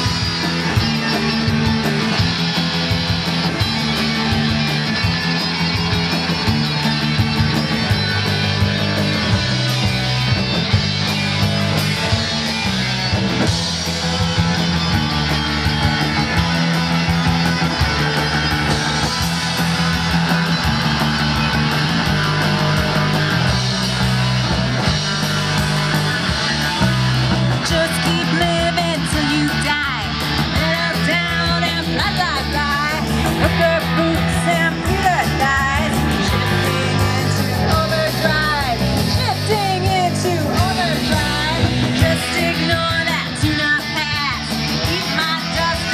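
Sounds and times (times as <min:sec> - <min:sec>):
repeating bass line: 0:00.0 - 0:45.9
rock music with guitar: 0:00.0 - 0:45.9.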